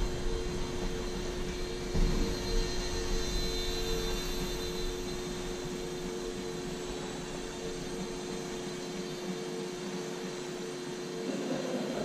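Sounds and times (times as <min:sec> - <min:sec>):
small electric motor and propeller hum: 0:00.0 - 0:11.3.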